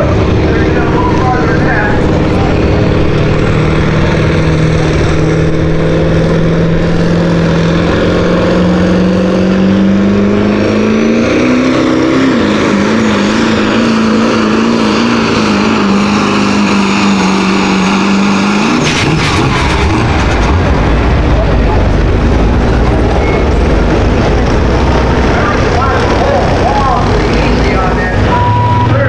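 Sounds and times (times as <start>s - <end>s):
diesel truck engine at full throttle: 0.0s - 29.0s.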